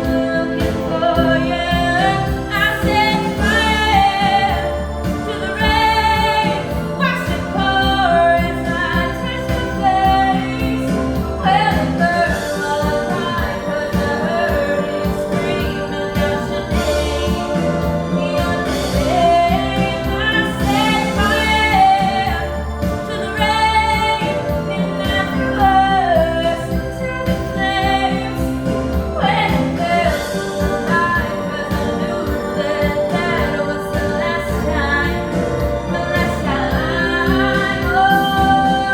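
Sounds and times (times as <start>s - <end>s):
instrumental backing with steady beat: 0.0s - 38.9s
person singing: 0.0s - 38.9s.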